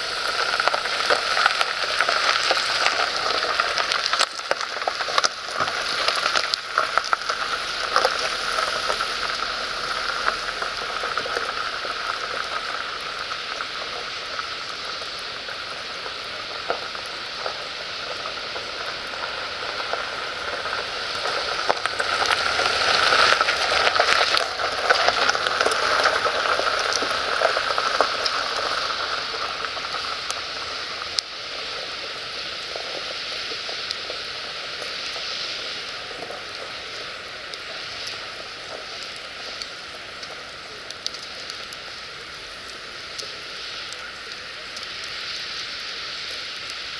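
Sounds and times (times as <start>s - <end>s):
firewood crackling and popping: 0.0s - 46.9s.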